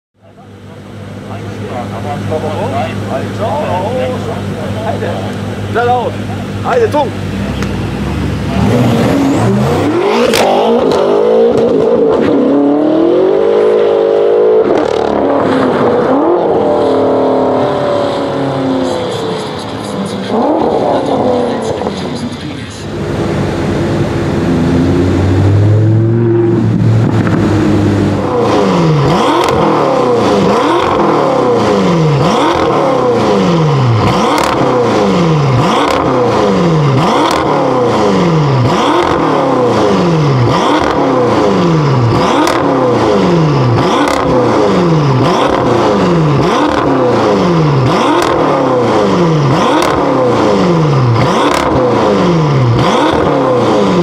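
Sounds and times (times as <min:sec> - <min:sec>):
car engine revving: 0:00.2 - 0:54.0.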